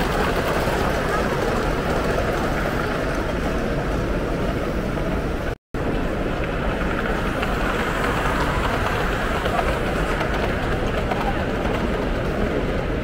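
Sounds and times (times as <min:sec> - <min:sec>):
crowd hubbub: 0:00.0 - 0:04.8, 0:06.8 - 0:13.0
model train running: 0:00.0 - 0:13.0.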